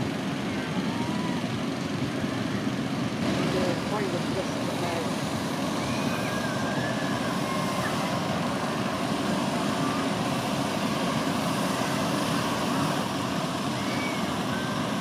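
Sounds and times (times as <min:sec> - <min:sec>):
hot-air balloon burner roar: 0:00.0 - 0:15.0.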